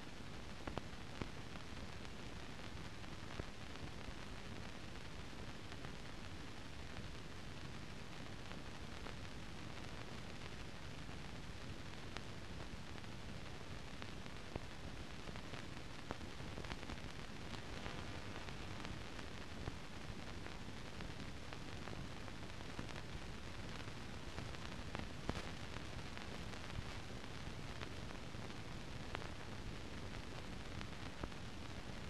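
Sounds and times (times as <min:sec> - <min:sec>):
steady film hiss: 0:00.0 - 0:32.0
clicks and crackles: 0:00.1 - 0:32.0.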